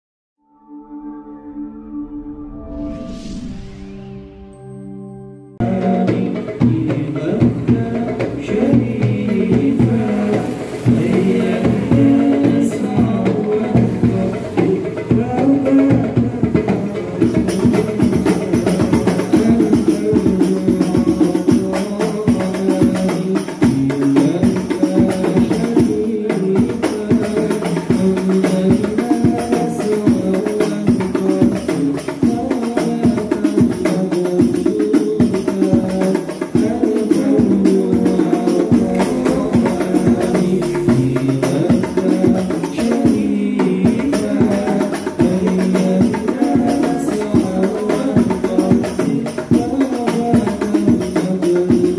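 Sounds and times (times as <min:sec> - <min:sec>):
frame drums playing fast rhythm: 0:05.6 - 0:51.9
men singing into microphones: 0:05.6 - 0:51.9.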